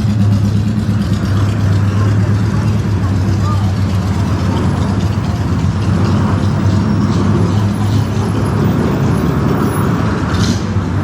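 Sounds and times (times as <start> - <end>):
car driving in traffic: 0.0 - 11.0.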